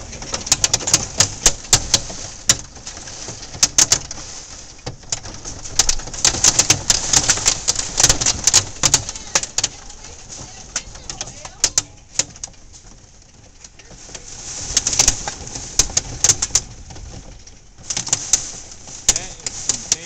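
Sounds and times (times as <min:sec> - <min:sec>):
hailstones clattering: 0:00.0 - 0:20.0.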